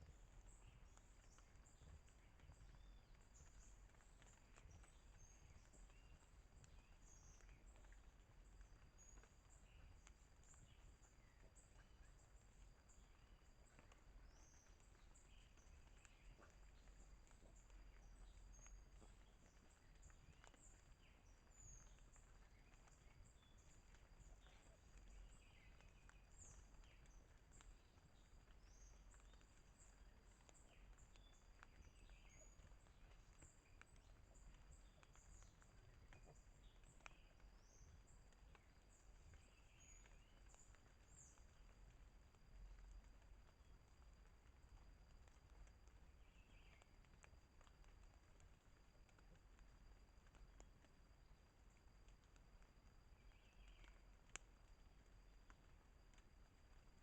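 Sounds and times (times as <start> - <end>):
high chirps and ticks: 0.0 - 57.0.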